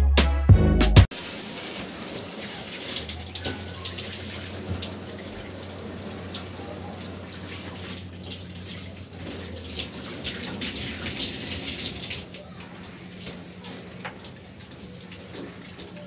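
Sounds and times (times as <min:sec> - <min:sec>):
water splashing and streaming: 0:01.1 - 0:16.0.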